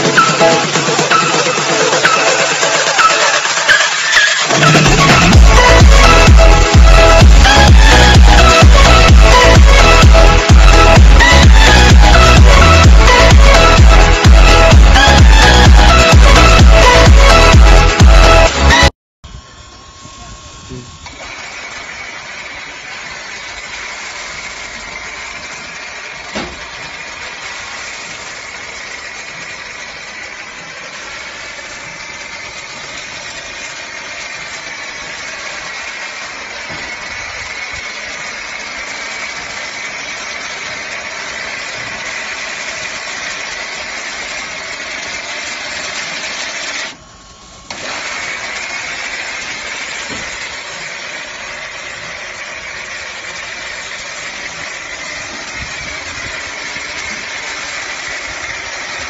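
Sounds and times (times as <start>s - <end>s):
pressure washer spraying: 0.0s - 18.9s, 20.2s - 59.0s
pressure washer motor hum: 0.0s - 59.0s.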